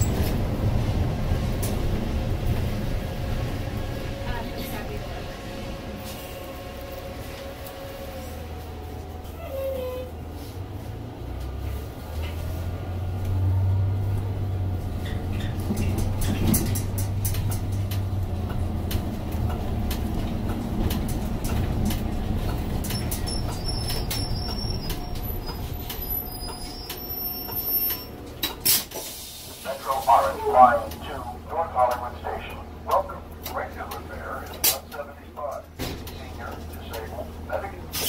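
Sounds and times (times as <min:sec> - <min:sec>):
bus engine accelerating: 0:00.0 - 0:38.0.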